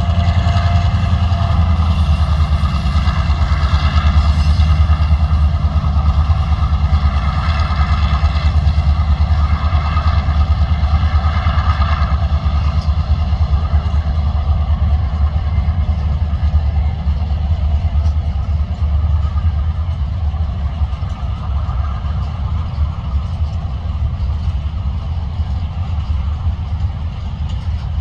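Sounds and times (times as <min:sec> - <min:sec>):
locomotive engines rumbling: 0:00.0 - 0:28.0.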